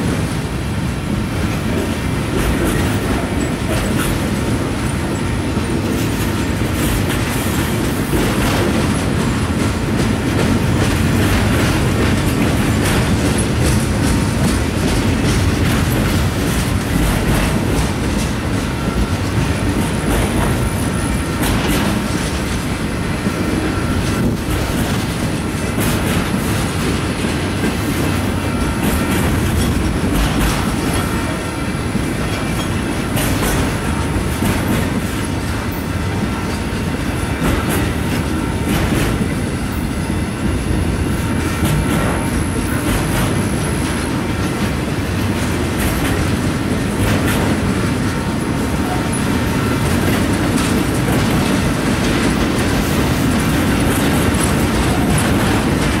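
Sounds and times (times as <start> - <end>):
steel wheels rumbling: 0.0 - 56.0
wheels clicking over rail joints: 1.1 - 39.9, 40.5 - 56.0.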